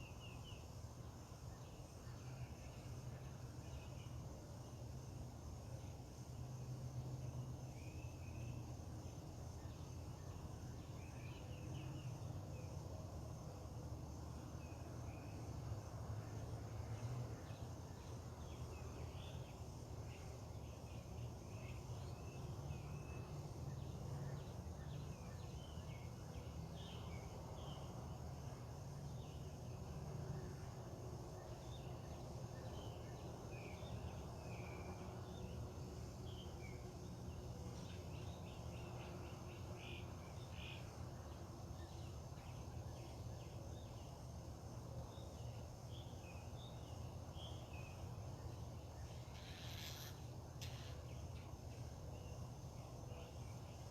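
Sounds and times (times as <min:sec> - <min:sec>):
faint high buzz: 0:00.0 - 0:53.9
songbirds chirping: 0:00.0 - 0:53.9.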